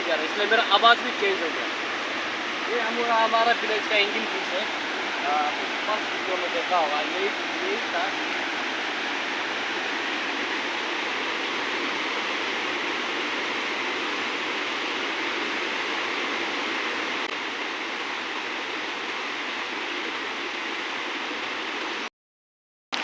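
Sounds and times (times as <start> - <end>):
flowing water rushing: 0.0 - 22.1.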